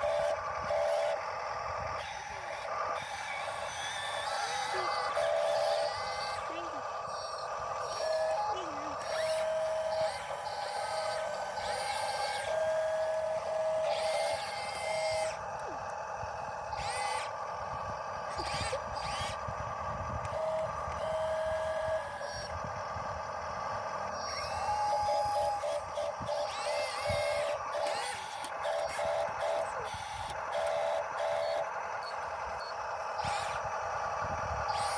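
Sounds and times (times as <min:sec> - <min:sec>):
small electric motors whining: 0:00.0 - 0:34.9.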